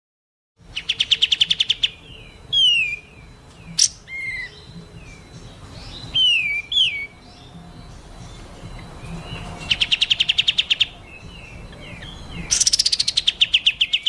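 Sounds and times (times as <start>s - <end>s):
songbird trill and whistles: 0.6s - 14.0s.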